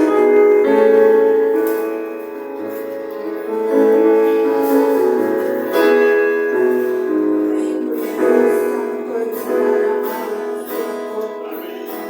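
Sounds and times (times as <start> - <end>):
church worship music held chords: 0.0 - 12.0.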